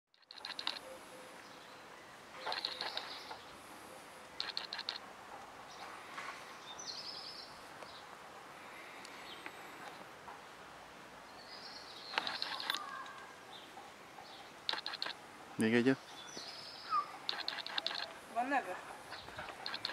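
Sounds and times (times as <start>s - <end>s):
birds chirping: 0.1s - 19.9s
faint outdoor background: 0.1s - 19.9s.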